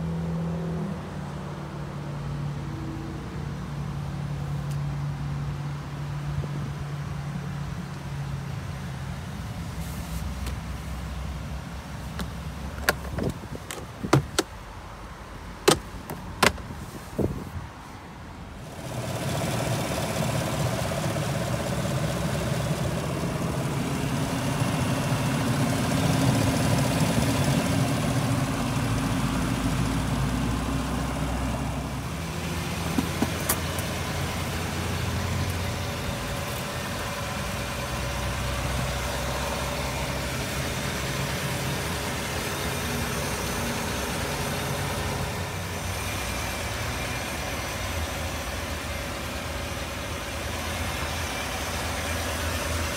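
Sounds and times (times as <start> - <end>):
truck engine idling: 3.0 - 52.9.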